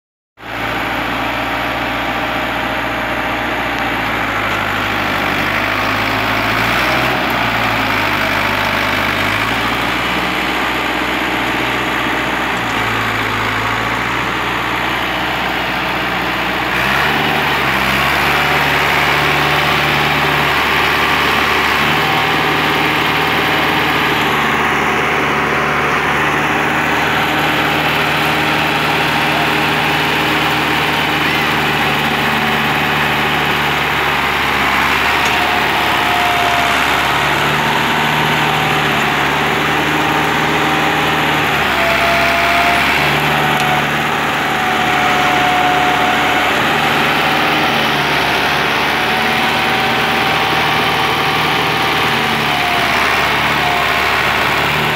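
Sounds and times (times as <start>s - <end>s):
tractor engine under load: 0.4s - 54.9s.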